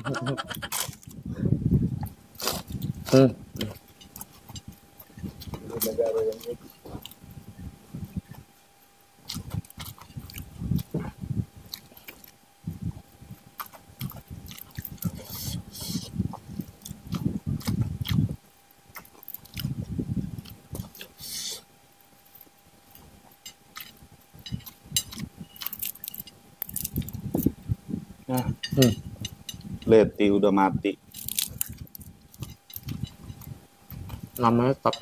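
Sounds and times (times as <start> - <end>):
chewing and mouth noises: 1.9 - 27.6, 31.1 - 35.0.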